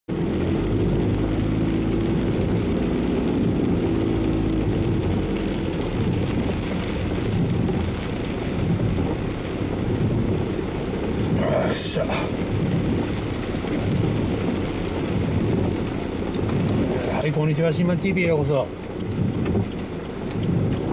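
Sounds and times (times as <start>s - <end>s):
car engine hum: 0.1s - 20.9s
heavy rain on car: 0.1s - 20.9s
road noise: 0.1s - 20.9s.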